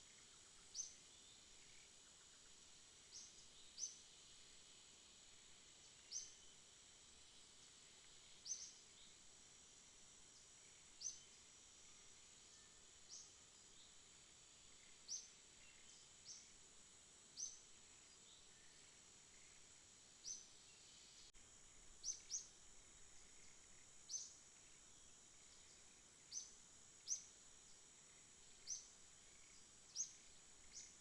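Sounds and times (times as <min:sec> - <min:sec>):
insect chorus: 0:00.0 - 0:31.0.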